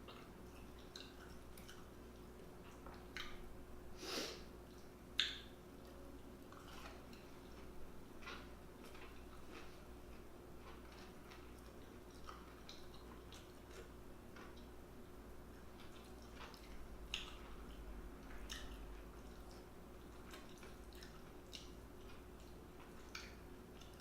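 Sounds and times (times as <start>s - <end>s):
person chewing food: 0.0s - 3.5s, 4.6s - 24.0s.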